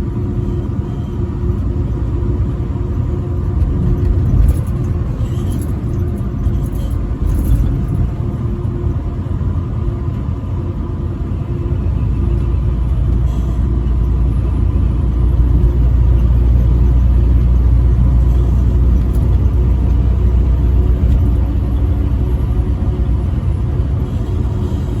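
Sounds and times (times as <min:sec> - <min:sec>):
road rumble: 0:00.0 - 0:25.0
truck engine drone: 0:00.0 - 0:25.0.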